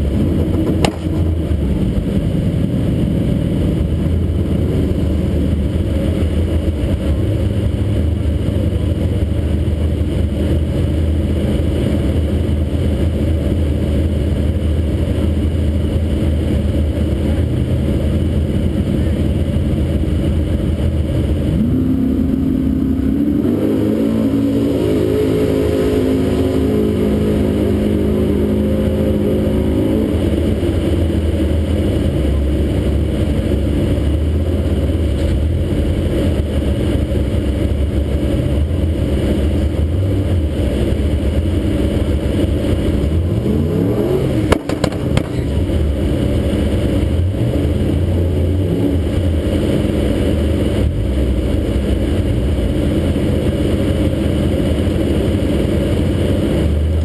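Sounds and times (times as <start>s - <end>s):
car engines idling: 0.0s - 57.0s
higher engine note: 0.0s - 57.0s.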